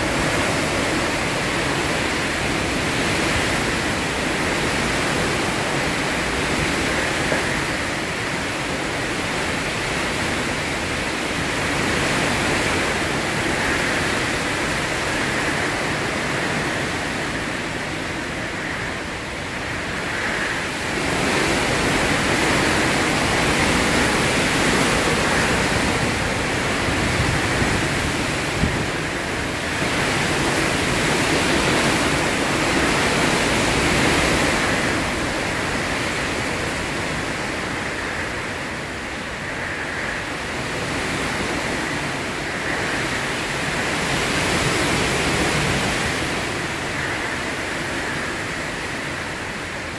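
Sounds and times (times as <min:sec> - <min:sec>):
heavy rain: 0:00.0 - 0:49.9
hurricane wind: 0:00.0 - 0:49.9.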